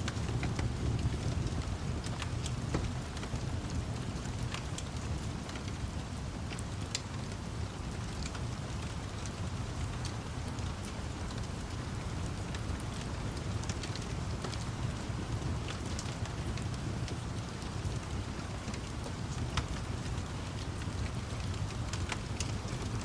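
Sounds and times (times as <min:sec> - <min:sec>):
low constant rumble: 0:00.0 - 0:23.0
steady rain: 0:00.0 - 0:23.0
wood fire crackling: 0:00.0 - 0:23.0.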